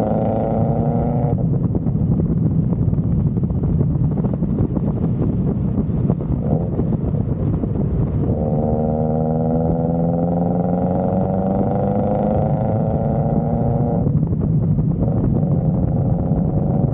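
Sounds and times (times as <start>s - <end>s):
car exhaust rumbling: 0.0s - 16.9s.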